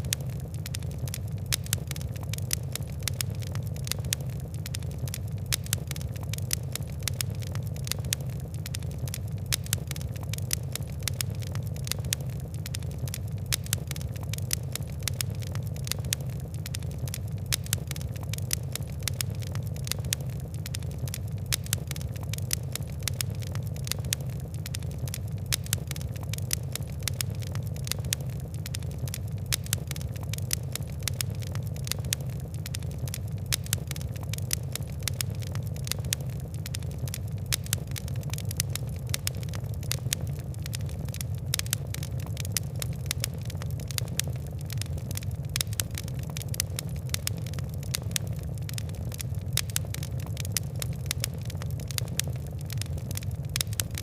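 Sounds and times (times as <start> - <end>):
fire crackling and popping: 0.0 - 54.0
low rumble of burning: 0.0 - 54.0.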